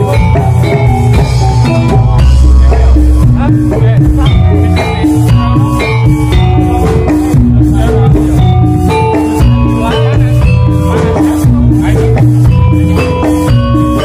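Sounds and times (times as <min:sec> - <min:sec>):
deep bass: 0:00.0 - 0:14.0
metallophone melody: 0:00.0 - 0:14.0
rattling percussion: 0:00.0 - 0:14.0
steady drum beat: 0:00.0 - 0:14.0.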